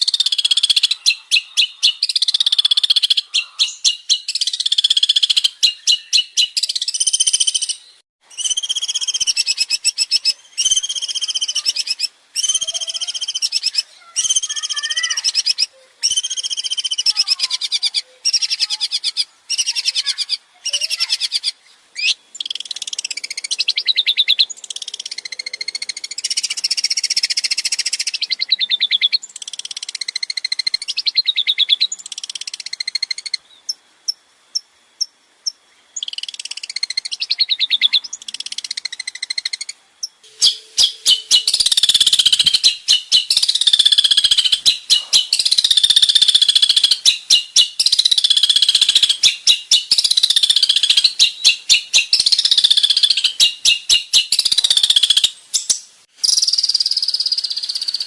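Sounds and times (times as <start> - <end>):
shrike singing rattling phrases: 0.0 - 33.3, 36.0 - 58.0.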